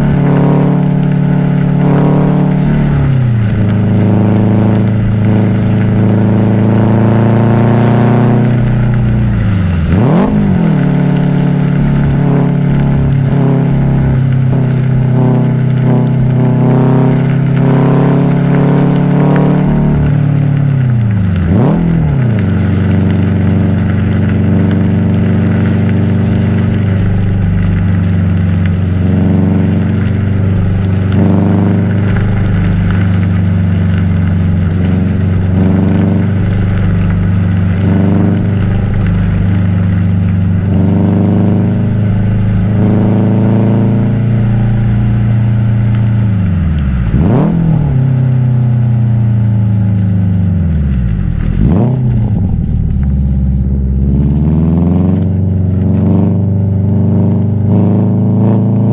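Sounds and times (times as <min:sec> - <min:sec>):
car engine and exhaust rumbling: 0:00.0 - 0:58.9.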